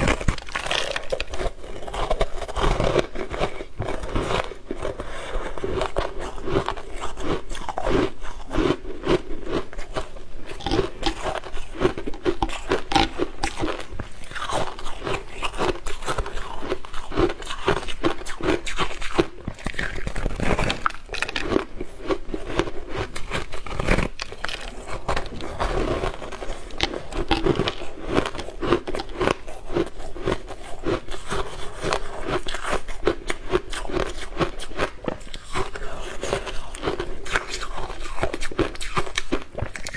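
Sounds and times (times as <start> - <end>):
crunching ice: 0.0 - 39.9.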